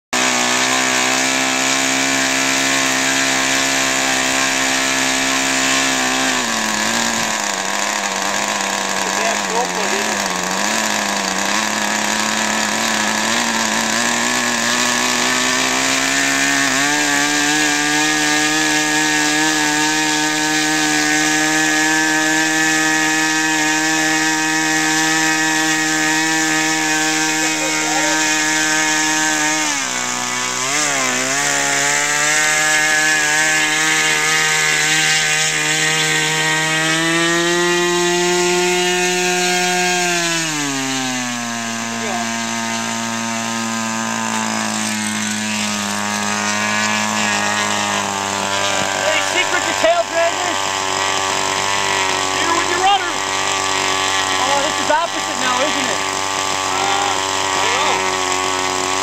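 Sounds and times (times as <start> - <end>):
model airplane engine running: 0.2 - 59.0.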